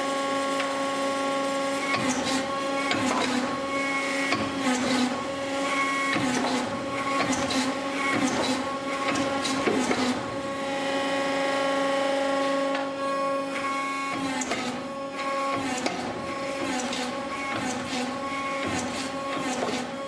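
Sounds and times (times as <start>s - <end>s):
hydraulic press humming and whining: 0.0s - 20.0s.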